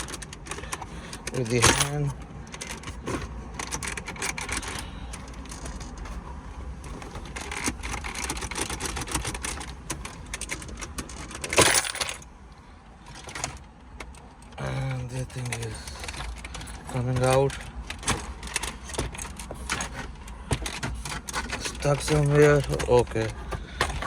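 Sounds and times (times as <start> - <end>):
plastic clicking and rattling: 0.0 - 12.2, 13.0 - 24.0.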